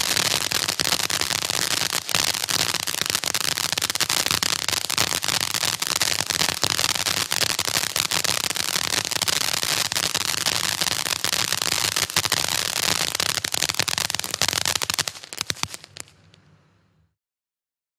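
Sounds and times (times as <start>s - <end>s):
fireworks crackling and popping: 0.0s - 17.1s.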